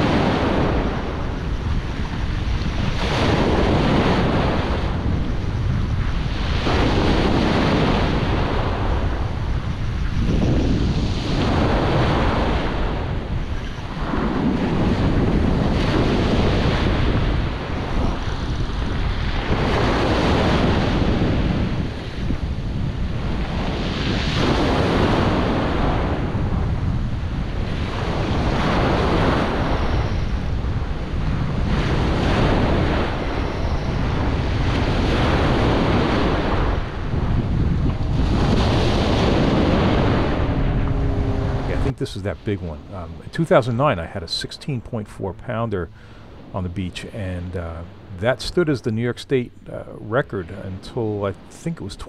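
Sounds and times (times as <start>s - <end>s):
ocean surf breaking: 0.0s - 52.0s
wind buffeting microphone: 0.0s - 52.0s.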